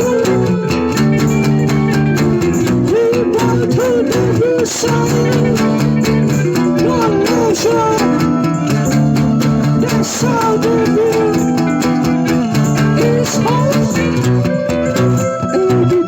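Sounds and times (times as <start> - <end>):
guitar music with steady beat: 0.0 - 16.0.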